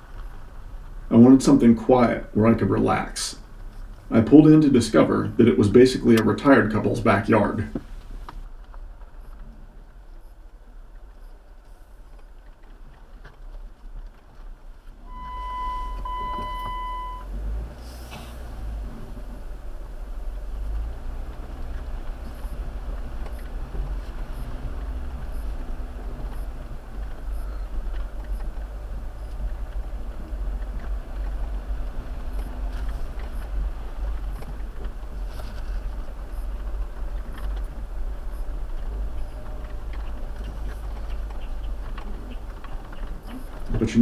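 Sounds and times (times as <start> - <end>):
engine and road rumble: 0.0 - 44.0.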